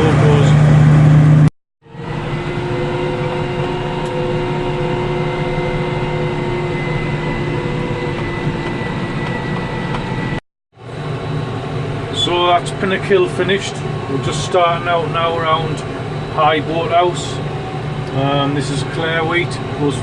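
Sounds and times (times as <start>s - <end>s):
combine harvester drone: 0.0s - 20.0s
steady whining tones: 0.0s - 20.0s.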